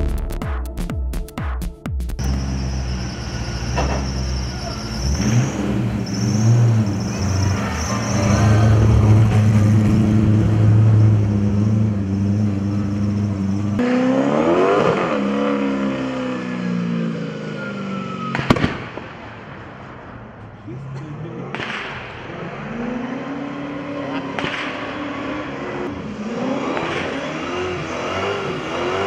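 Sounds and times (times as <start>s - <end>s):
car engine revving: 2.2s - 19.6s, 20.7s - 29.0s.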